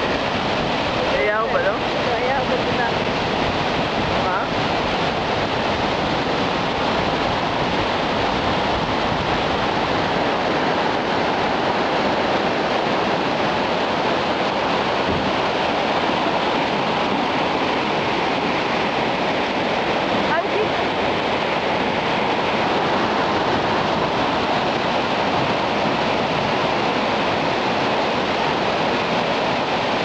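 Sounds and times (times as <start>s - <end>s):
flood water rushing: 0.0s - 30.0s.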